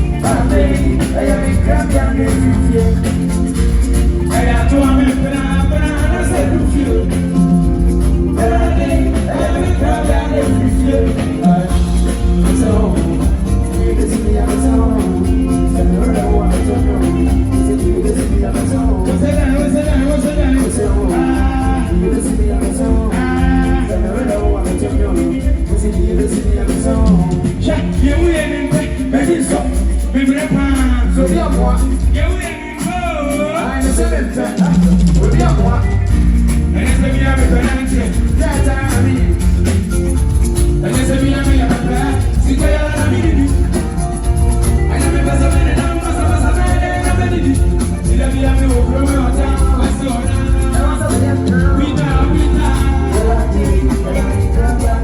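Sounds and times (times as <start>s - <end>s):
heavy bass: 0.0s - 32.4s, 33.7s - 55.0s
live band playing: 0.0s - 55.0s
person singing: 0.0s - 55.0s.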